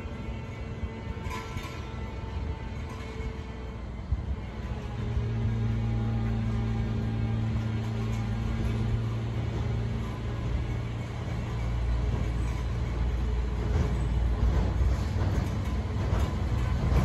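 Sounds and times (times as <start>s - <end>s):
metallic rattling of train wheels: 0.0s - 17.0s
train engine rumble: 0.0s - 17.0s.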